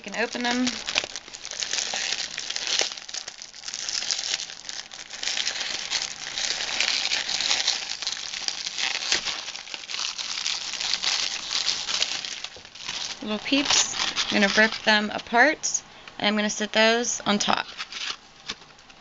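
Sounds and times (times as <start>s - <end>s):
plastic wrapper crinkling and tearing: 0.0s - 15.1s, 17.6s - 18.8s.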